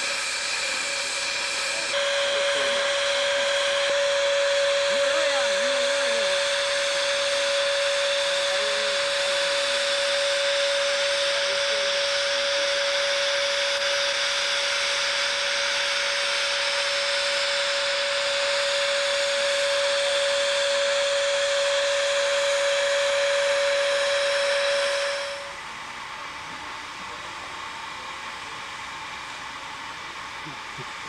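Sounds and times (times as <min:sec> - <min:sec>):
steam hissing: 0:00.0 - 0:31.0.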